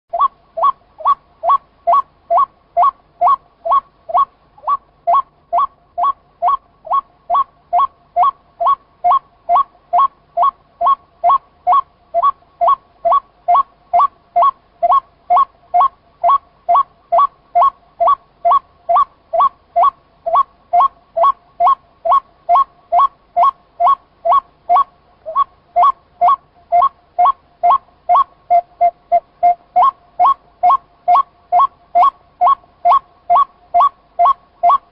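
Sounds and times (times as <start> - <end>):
waterhen calling: 0.1 - 34.9.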